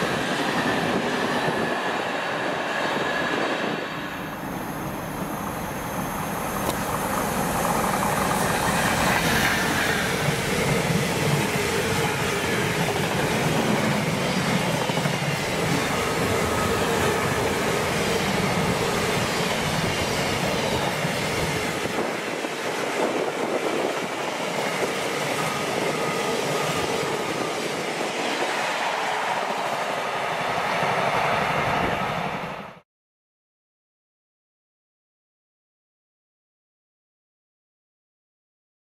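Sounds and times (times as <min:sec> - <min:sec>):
freight train passing: 0:00.0 - 0:32.8.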